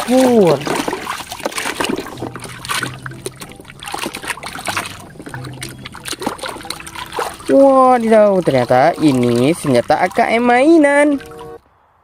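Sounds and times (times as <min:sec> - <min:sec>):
water splashing and trickling: 0:00.0 - 0:11.6.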